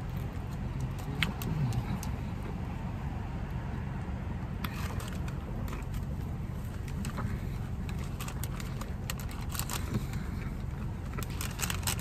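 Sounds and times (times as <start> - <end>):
chewing crunchy taco: 0.0 - 2.6, 4.6 - 12.0
car engine hum: 0.0 - 12.0.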